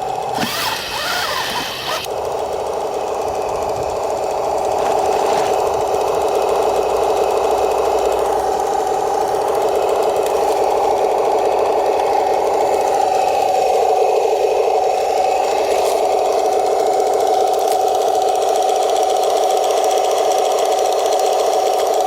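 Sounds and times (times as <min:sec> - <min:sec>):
toy tank motors whining: 0:00.0 - 0:19.1.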